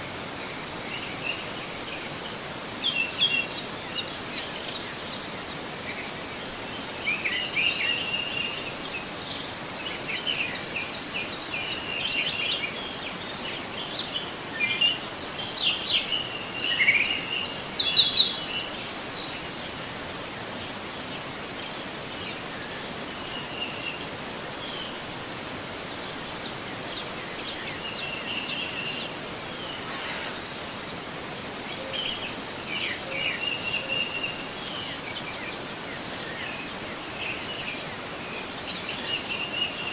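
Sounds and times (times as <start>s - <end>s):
river running: 0.0s - 39.9s
songbirds chirping: 0.0s - 39.9s.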